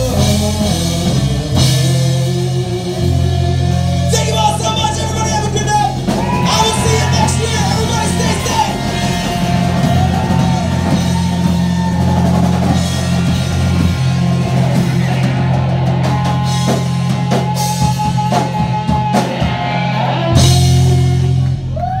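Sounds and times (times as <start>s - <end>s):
electric guitar lead notes: 0.0s - 22.0s
live rock music: 0.0s - 22.0s.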